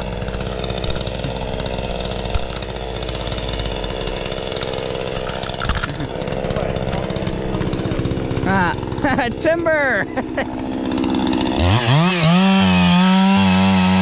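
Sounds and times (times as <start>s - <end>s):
chainsaw cutting tree: 0.0s - 14.0s.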